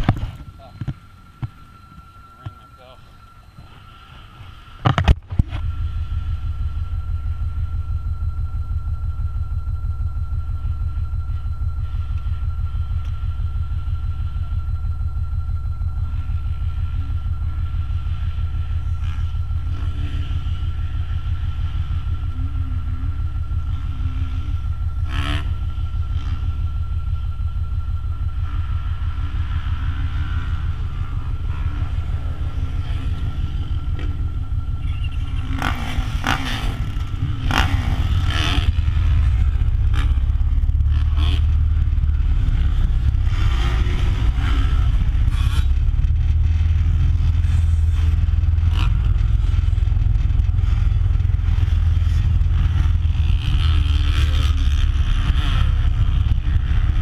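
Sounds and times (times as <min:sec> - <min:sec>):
motorbike engine idling: 0:00.0 - 0:57.0.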